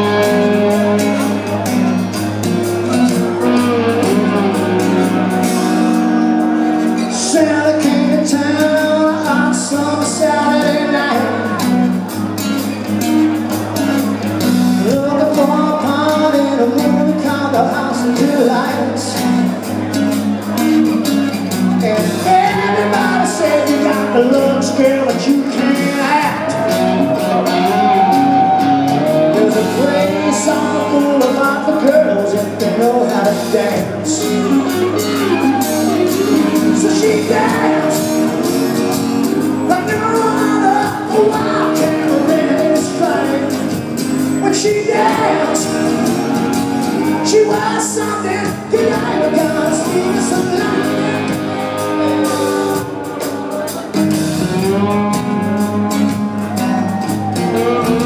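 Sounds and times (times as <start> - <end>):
man singing: 0.0 - 1.8, 2.8 - 12.2, 14.7 - 19.6, 21.6 - 58.0
rock band playing: 0.0 - 58.0.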